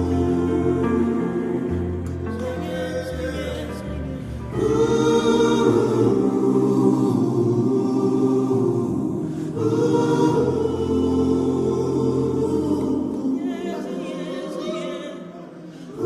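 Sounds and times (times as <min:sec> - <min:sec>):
wordless choir singing chords: 0:00.0 - 0:16.0.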